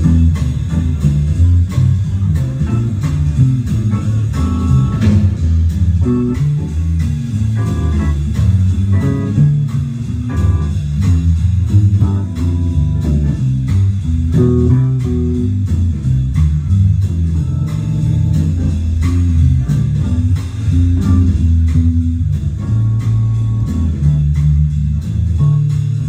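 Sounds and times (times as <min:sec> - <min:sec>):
bluesy guitar and bass music: 0:00.0 - 0:26.0
steady drum beat: 0:00.0 - 0:26.0.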